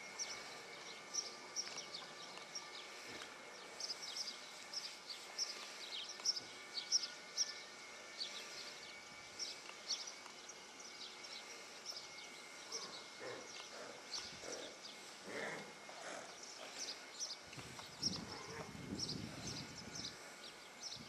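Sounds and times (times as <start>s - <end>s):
faint high-pitched hum: 0.0s - 21.0s
small birds chirping: 0.0s - 21.0s.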